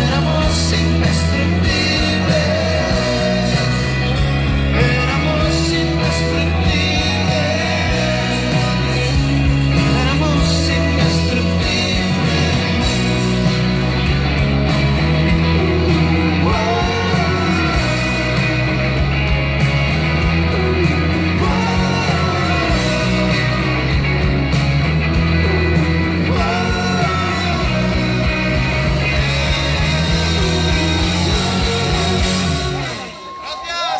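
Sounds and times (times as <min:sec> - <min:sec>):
man singing: 0:00.0 - 0:13.5, 0:15.9 - 0:19.3, 0:20.7 - 0:24.0, 0:26.1 - 0:33.9
bass guitar: 0:00.0 - 0:33.6
drums: 0:00.0 - 0:33.9
electric guitars: 0:00.0 - 0:33.9.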